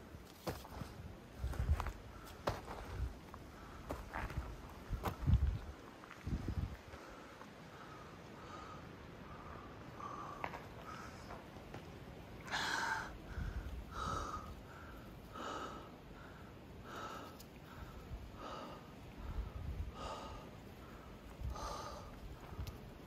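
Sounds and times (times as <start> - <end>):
person breathing heavily: 0.7 - 5.1, 6.6 - 11.4, 12.4 - 22.8.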